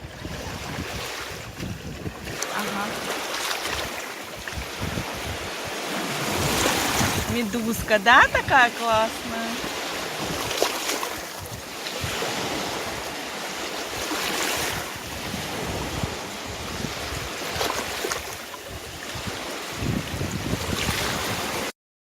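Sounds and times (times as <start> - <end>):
sea waves washing onto shore: 0.0 - 21.7
wind buffeting microphone: 0.0 - 21.7.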